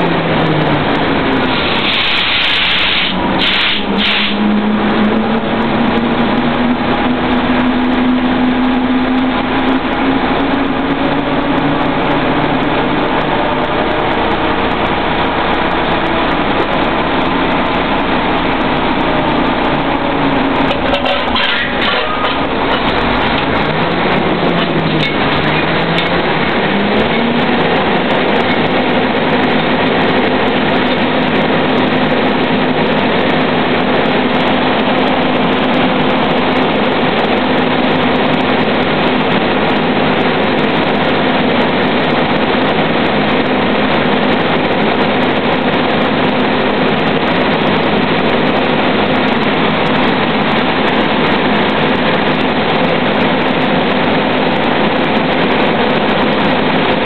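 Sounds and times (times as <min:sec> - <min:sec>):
drilling rig engines and machinery: 0:00.0 - 0:57.0.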